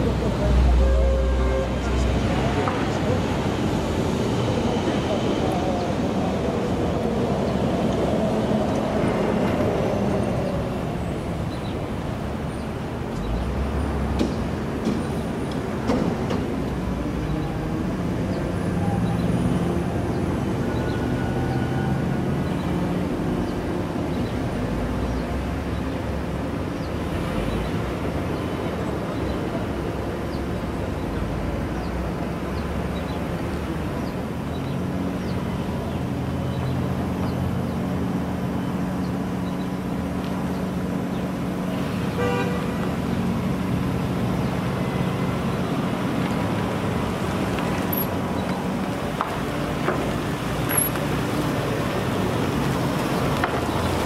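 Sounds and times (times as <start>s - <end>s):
vehicle engines running: 0.0s - 54.0s.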